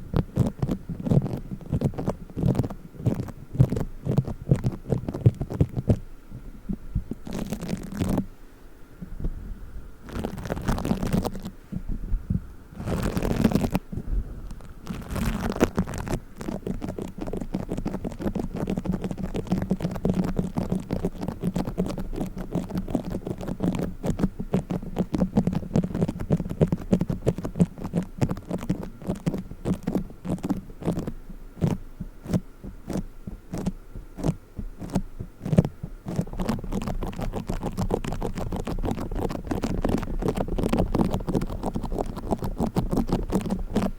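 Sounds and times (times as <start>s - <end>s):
foam squeezed crackling and squishing: 0.0s - 6.0s, 7.1s - 8.3s, 10.1s - 11.6s, 12.8s - 43.9s
rustling: 0.0s - 6.1s, 6.7s - 8.3s, 10.0s - 43.9s.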